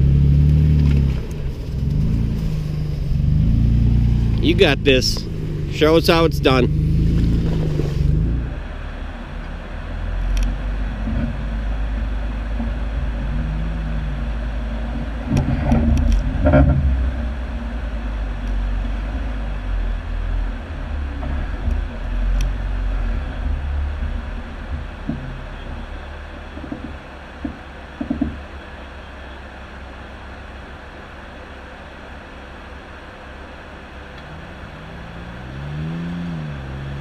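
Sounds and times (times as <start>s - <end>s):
car engine running under load: 0.0s - 37.0s.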